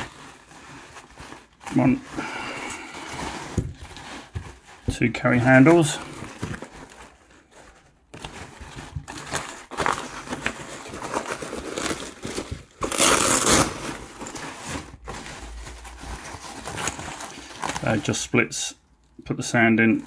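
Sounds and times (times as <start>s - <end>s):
fabric rustling and crinkling: 0.0s - 18.6s.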